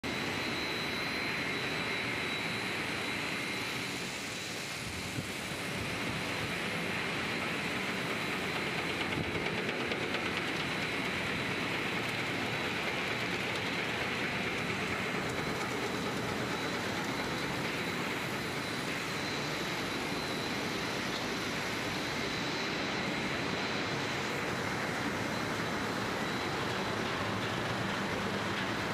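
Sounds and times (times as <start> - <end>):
steady factory machinery noise: 0.0 - 28.9
thin high-pitched whine: 0.1 - 28.9.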